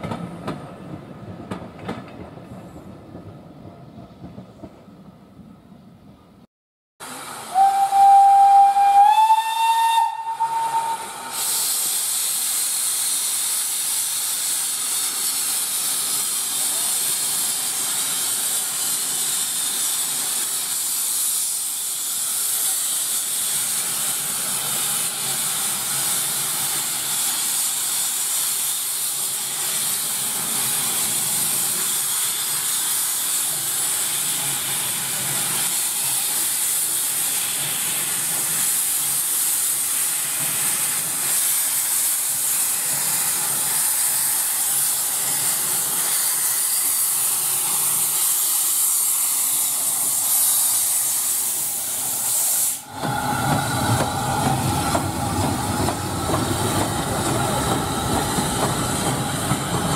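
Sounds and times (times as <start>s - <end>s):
steam locomotive venting steam: 7.0s - 59.9s.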